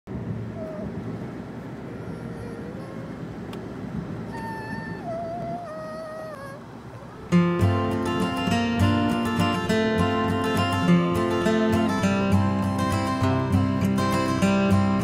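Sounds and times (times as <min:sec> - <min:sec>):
car road and engine noise: 0:00.1 - 0:15.0.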